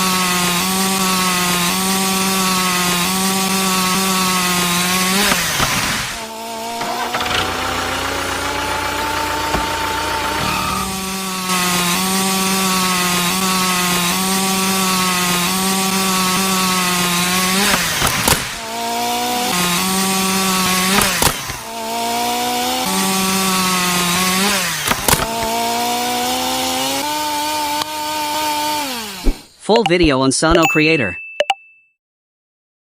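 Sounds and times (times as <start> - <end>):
small saw blade whining through wood: 0.0 - 29.6.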